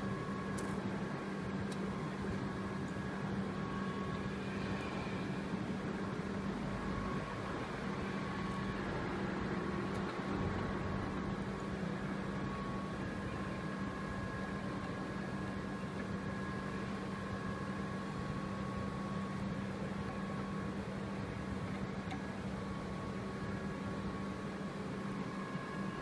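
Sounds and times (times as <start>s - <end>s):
machine humming with fan rushing: 0.0s - 26.0s.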